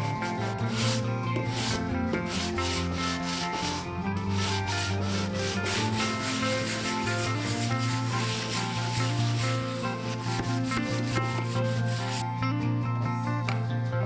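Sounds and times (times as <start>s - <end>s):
sandpaper rasping on wood: 0.0s - 12.2s
background music: 0.0s - 14.0s.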